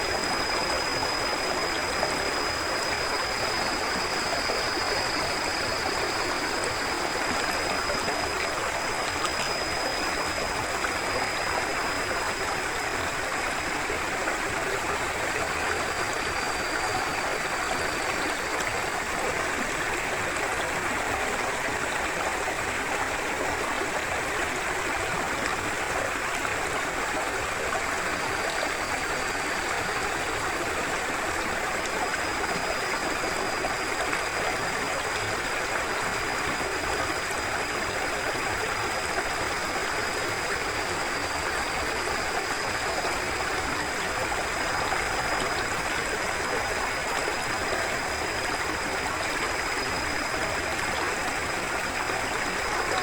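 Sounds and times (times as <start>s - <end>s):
river flowing: 0.0s - 53.0s.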